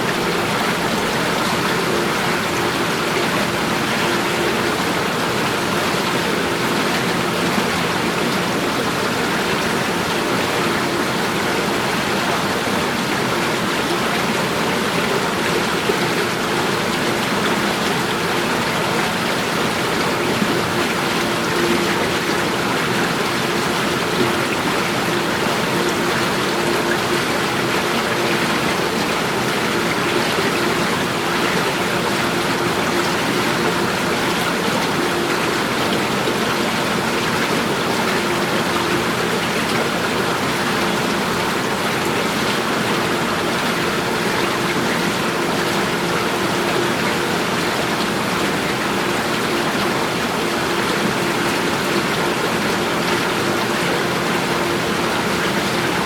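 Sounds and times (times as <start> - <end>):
running water rushing: 0.0 - 56.0.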